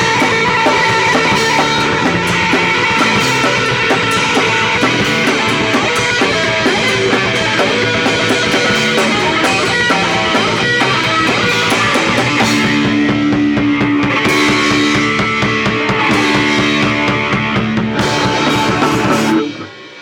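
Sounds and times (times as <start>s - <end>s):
live punk rock band: 0.0s - 20.0s.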